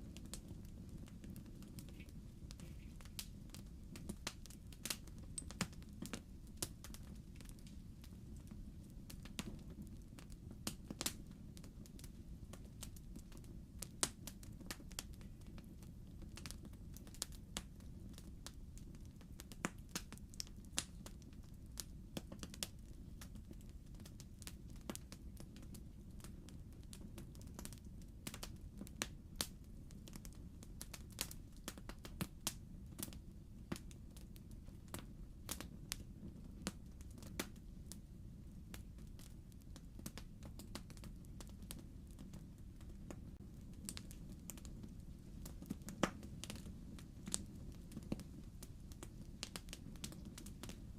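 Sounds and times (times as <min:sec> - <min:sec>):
burning fire: 0:00.0 - 0:50.9
logs crackling in a fireplace: 0:00.0 - 0:50.9.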